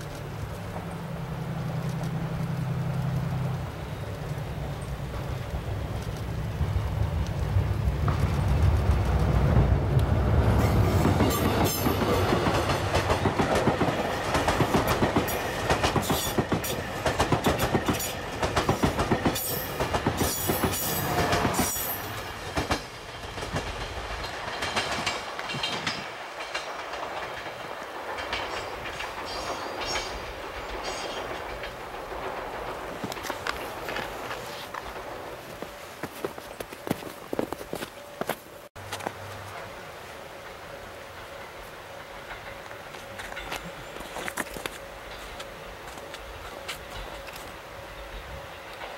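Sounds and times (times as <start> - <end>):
train rumbling past: 0.0 - 48.9
wheels clicking over rail joints: 0.0 - 48.9.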